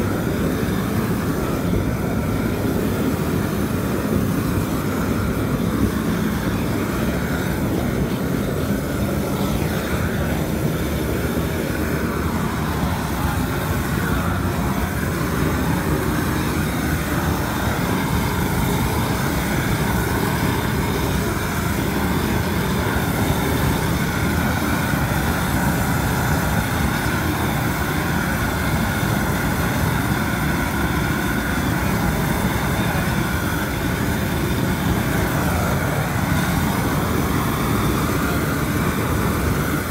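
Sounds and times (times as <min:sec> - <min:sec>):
gas torch roaring: 0:00.0 - 0:39.9.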